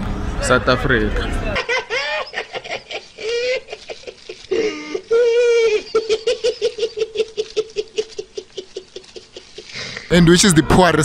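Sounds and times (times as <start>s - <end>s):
man laughing high-pitched: 1.6s - 11.0s.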